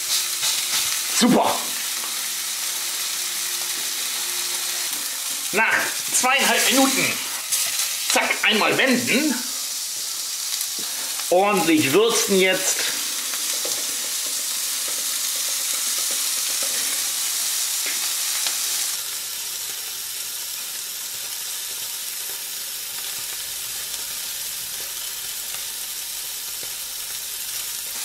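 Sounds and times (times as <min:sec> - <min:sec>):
burger patty sizzling in a pan: 0:00.0 - 0:28.0.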